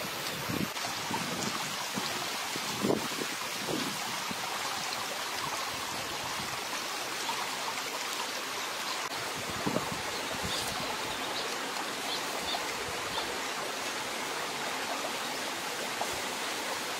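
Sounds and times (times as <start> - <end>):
stream running over rocks: 0.0 - 16.9.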